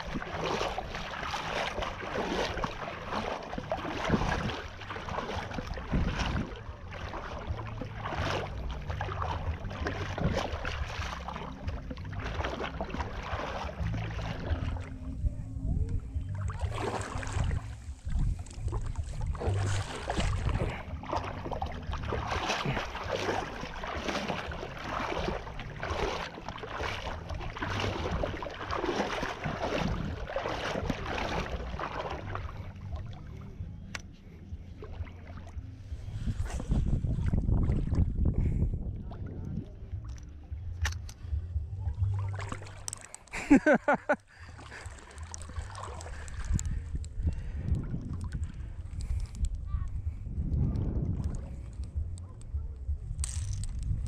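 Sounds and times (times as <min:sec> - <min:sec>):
wind rumbling across microphone: 0:00.0 - 0:43.0, 0:44.4 - 0:54.0
choppy water lapping and slapping: 0:00.0 - 0:54.0.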